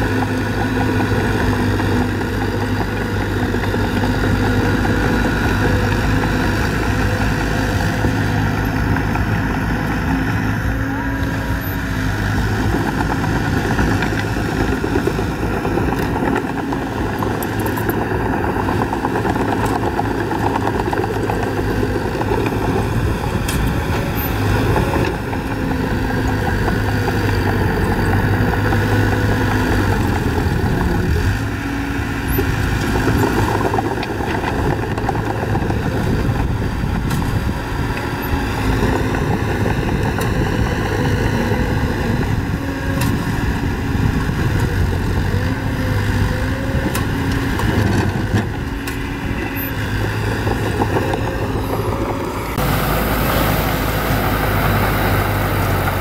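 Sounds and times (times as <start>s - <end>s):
blade pushing dirt and rock: 0.0s - 56.0s
bulldozer diesel engine running: 0.0s - 56.0s.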